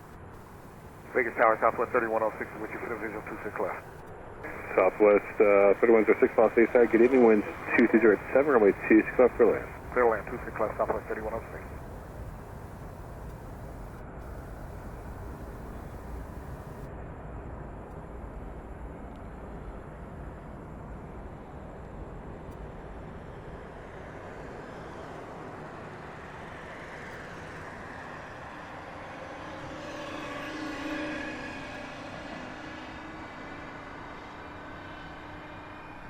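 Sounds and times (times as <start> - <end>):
jet airliner engines passing: 0.0 - 36.0.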